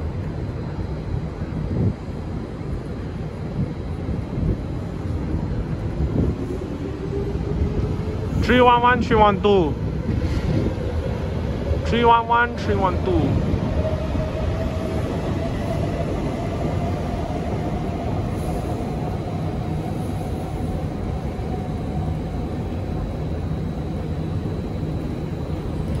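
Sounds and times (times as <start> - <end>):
low train rumble: 0.0 - 26.0.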